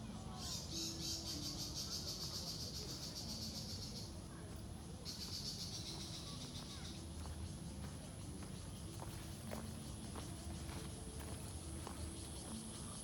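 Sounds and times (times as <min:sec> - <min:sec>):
insects trilling: 0:00.1 - 0:04.3, 0:05.0 - 0:13.0.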